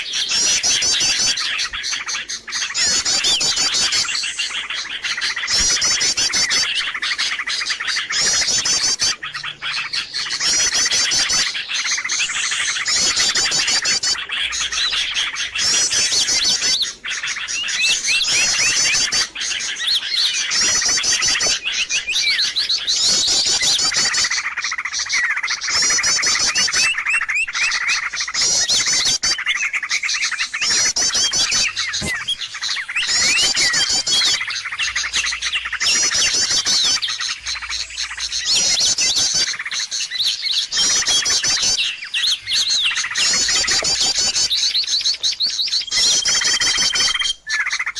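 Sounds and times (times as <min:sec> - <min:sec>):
high bird trills: 0:00.0 - 0:47.9
small birds chirping: 0:00.0 - 0:47.9.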